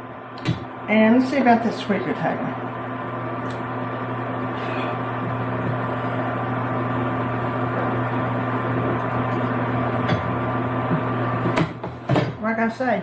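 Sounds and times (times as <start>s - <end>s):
kitchen appliance humming and whirring: 0.0s - 13.0s.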